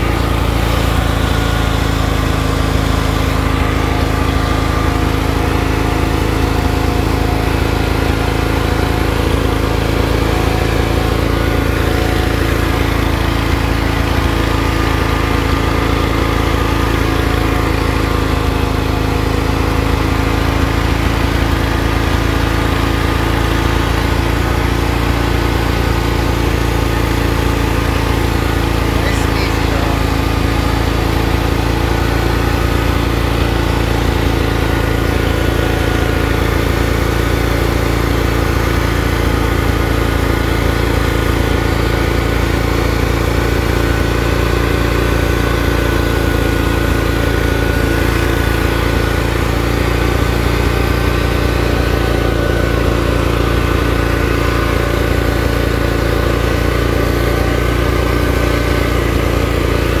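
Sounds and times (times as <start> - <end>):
lawn tractor engine running: 0.0 - 60.0.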